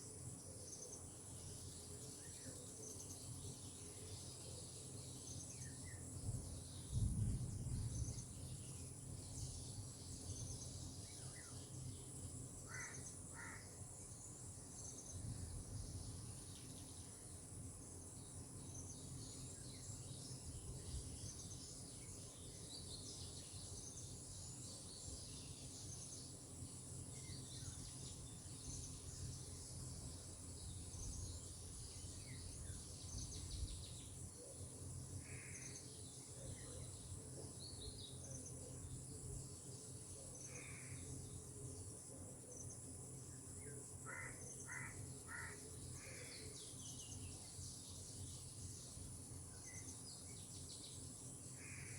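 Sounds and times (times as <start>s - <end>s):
low background hiss: 0.0s - 51.9s.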